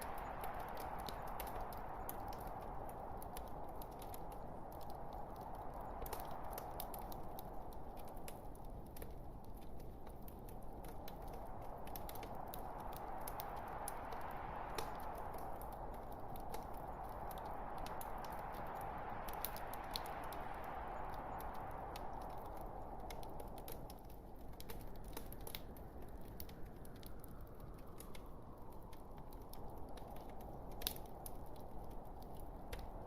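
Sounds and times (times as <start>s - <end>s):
hiss of burning logs: 0.0s - 33.0s
wood fire crackling: 0.0s - 33.0s.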